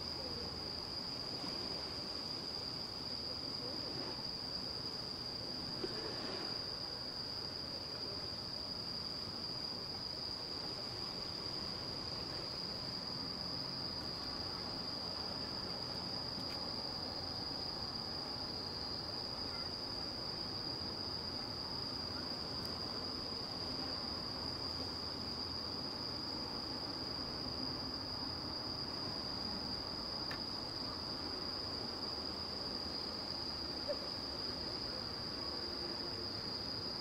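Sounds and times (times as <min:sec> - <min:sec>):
insects trilling: 0:00.0 - 0:37.0.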